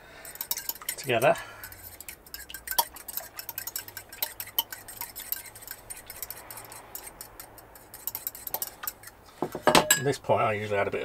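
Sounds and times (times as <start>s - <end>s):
fork clinking against bowl: 0.2s - 9.2s.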